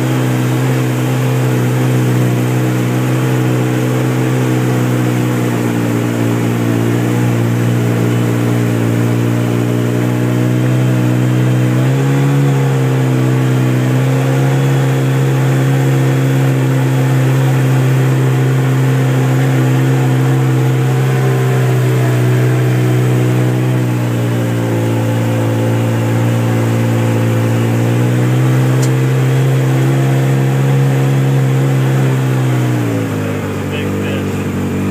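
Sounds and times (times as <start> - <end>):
off-road vehicle engine running: 0.0 - 34.9.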